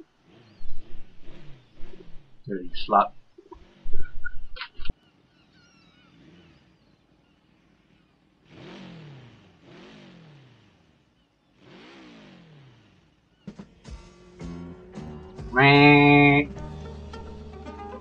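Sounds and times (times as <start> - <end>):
dirt bikes passing by: 0.0 - 13.6, 14.2 - 17.0.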